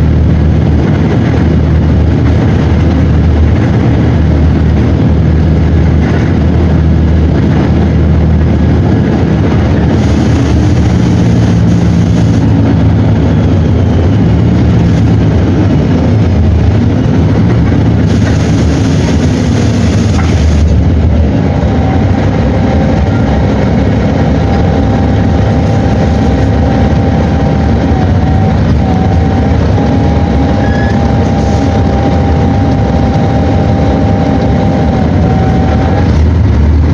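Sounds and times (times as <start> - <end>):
diesel bus engine running: 0.0 - 36.9
steady whine: 0.0 - 36.9.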